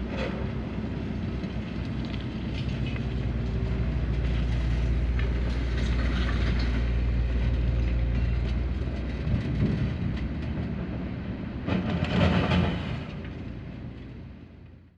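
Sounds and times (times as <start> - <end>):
heavy diesel engine running: 0.0 - 14.7.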